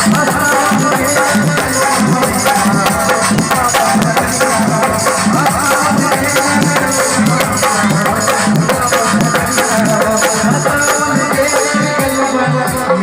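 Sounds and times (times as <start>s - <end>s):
hand drum strokes: 0.0s - 11.5s
live devotional band music: 0.0s - 13.0s.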